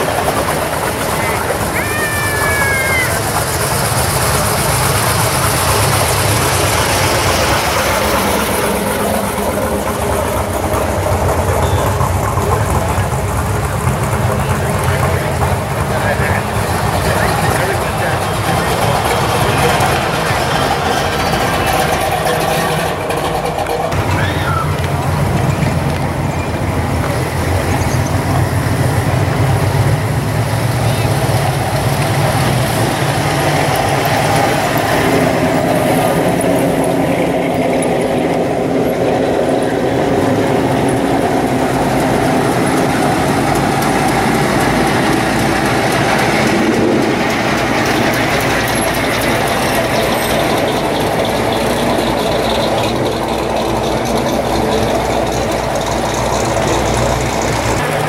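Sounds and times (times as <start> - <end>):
car engines rumbling passing by: 0.0 - 58.0.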